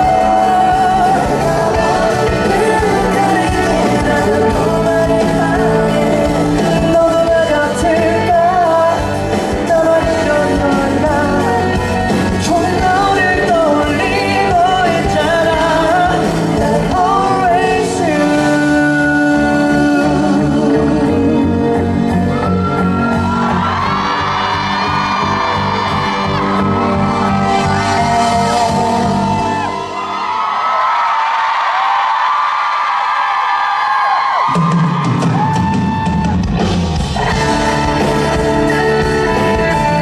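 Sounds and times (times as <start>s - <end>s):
person singing: 0.0s - 30.2s, 37.1s - 40.0s
live pop-rock ballad by band: 0.0s - 30.4s, 34.3s - 40.0s.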